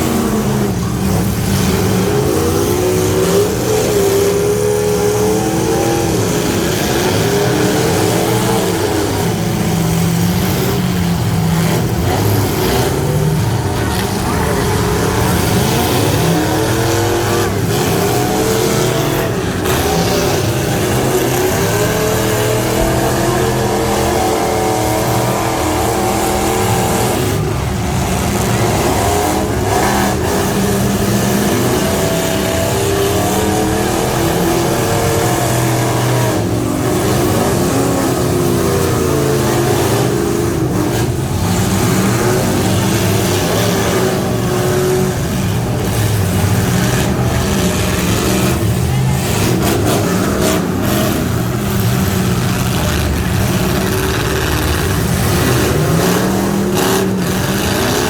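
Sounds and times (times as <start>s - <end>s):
truck engine revving high: 0.0s - 58.0s.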